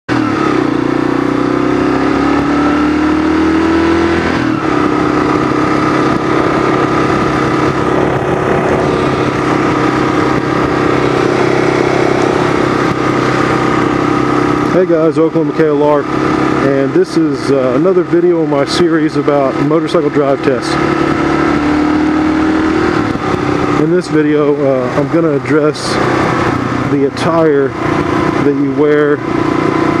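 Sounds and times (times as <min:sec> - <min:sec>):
motorcycle engine running: 0:00.1 - 0:30.0.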